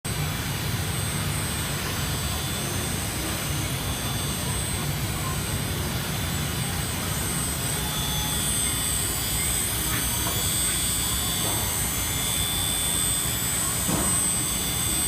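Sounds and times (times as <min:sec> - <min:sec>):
high-pitched whine: 0:00.1 - 0:15.0
machining center hum: 0:00.1 - 0:15.0.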